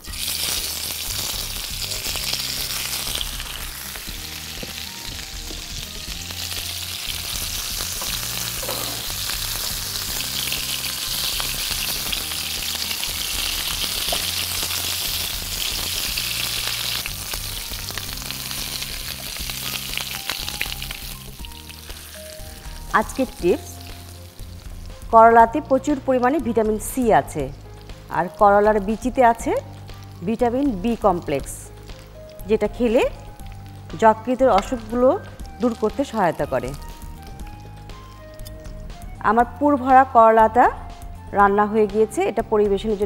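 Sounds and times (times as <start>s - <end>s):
food sizzling in a frying pan: 0.0s - 38.4s.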